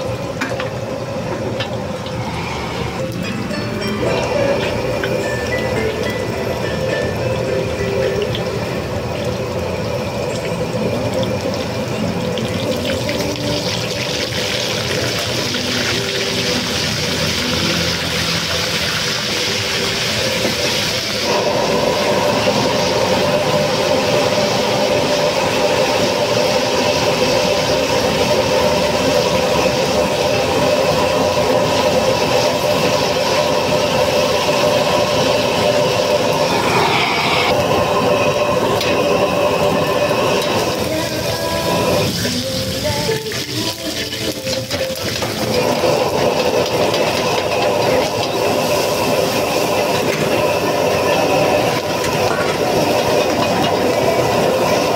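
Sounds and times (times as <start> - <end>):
oil sizzling in a wok: 0.0 - 54.9.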